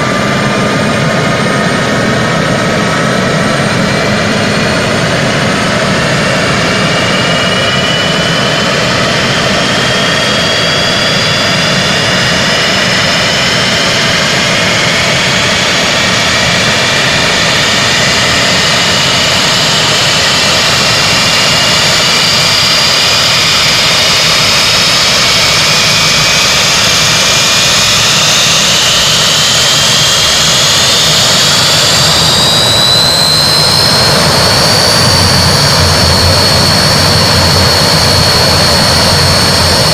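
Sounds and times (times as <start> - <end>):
turboprop engines running: 0.0 - 39.9
whining turbine tone: 0.0 - 39.9.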